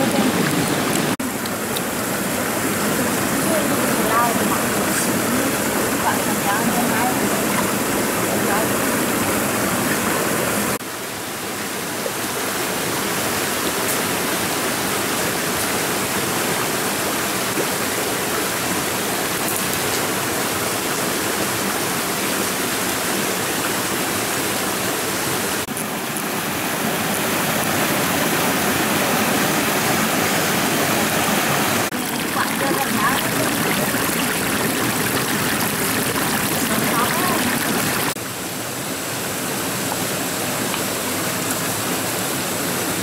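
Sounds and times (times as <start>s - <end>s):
stream rushing over stones: 0.0s - 43.0s.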